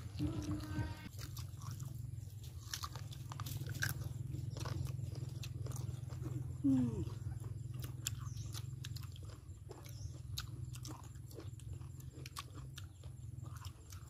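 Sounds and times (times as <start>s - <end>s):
steady low hum: 0.0s - 14.0s
mouths chewing wet smacks: 1.1s - 14.0s.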